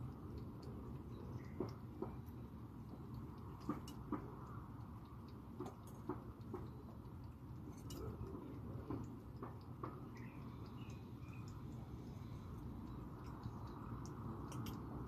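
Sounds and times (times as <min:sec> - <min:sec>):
cat chewing food: 0:00.0 - 0:15.0
low background rumble: 0:00.0 - 0:15.0.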